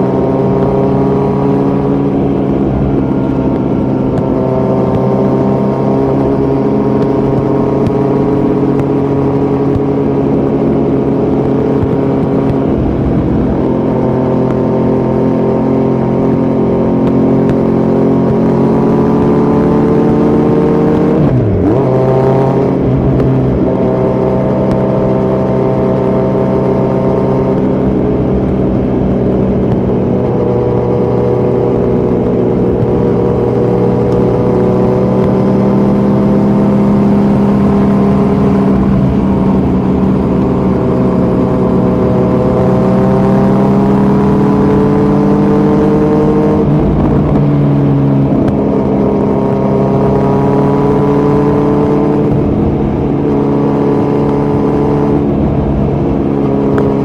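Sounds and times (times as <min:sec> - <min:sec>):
motorcycle engine running loud: 0:00.0 - 0:57.0.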